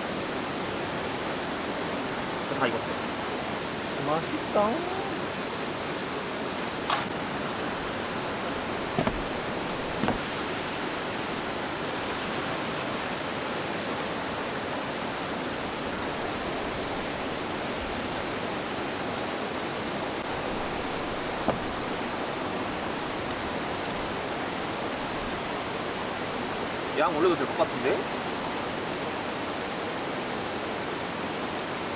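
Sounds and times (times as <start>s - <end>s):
rushing mountain stream: 0.0s - 31.9s.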